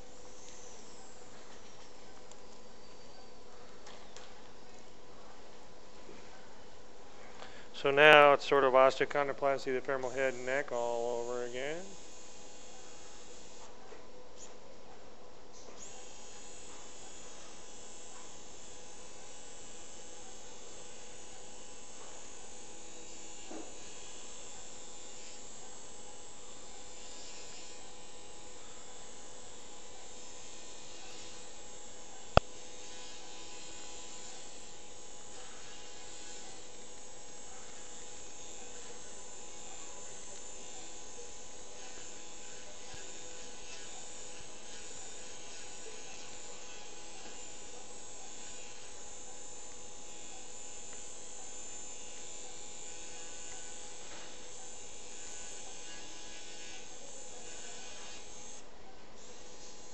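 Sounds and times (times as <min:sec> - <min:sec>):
surgical burr buzzing: 0:07.4 - 0:13.7, 0:15.8 - 0:58.6.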